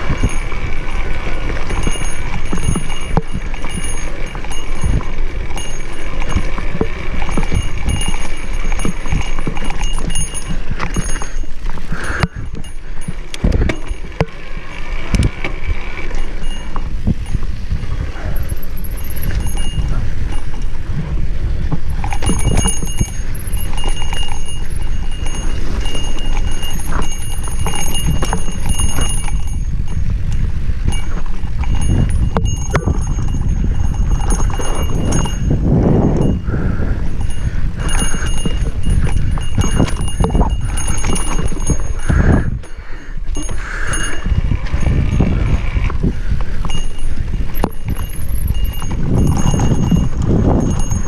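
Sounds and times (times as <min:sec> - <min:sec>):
mountain bike clattering: 0:00.0 - 0:51.0
wind buffeting microphone: 0:00.0 - 0:51.0.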